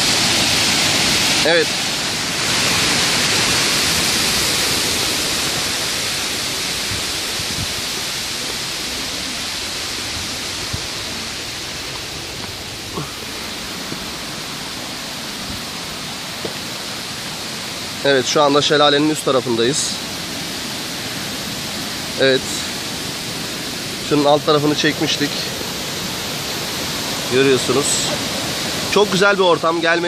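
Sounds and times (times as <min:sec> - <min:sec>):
waterfall rushing water: 0:00.0 - 0:30.0.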